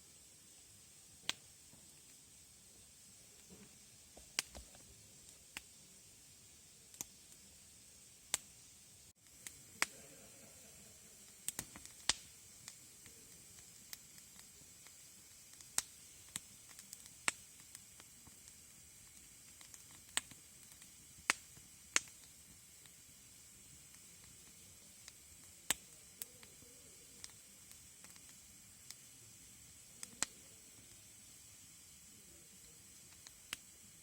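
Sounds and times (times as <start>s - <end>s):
faint hiss: 0.0s - 34.0s
campfire crackling and popping: 1.2s - 2.2s, 3.3s - 5.9s, 6.8s - 34.0s.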